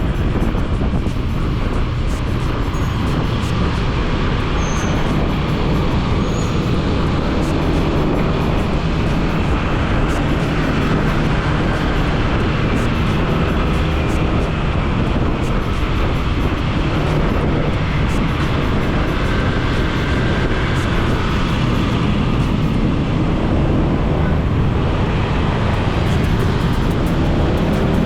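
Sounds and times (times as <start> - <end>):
wind and road noise: 0.0 - 28.0
motorcycle engine running: 0.7 - 28.0.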